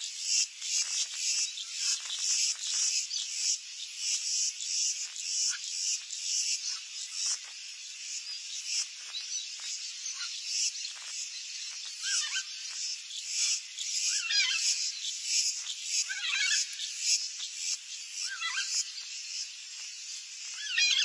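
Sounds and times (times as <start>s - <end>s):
faint bird chirps: 0.0s - 21.0s
insects shrilling in pulses: 0.2s - 21.0s.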